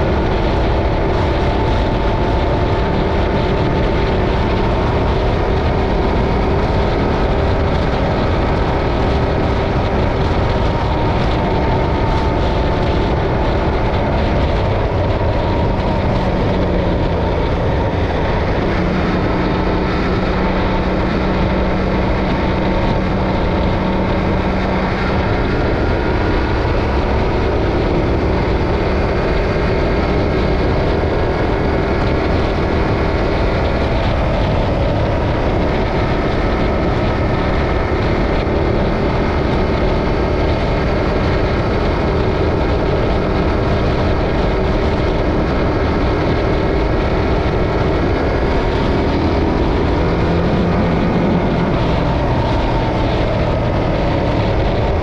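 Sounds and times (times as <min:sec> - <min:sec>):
motorcycle engine cruising: 0:00.0 - 0:55.0
wind rush on microphone: 0:00.0 - 0:55.0.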